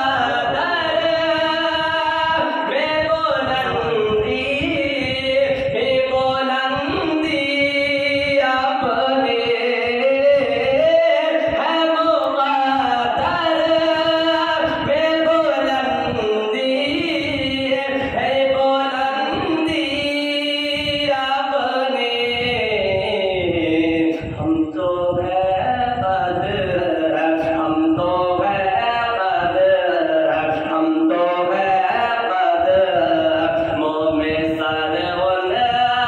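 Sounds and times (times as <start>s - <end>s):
person singing unaccompanied: 0.0s - 36.0s.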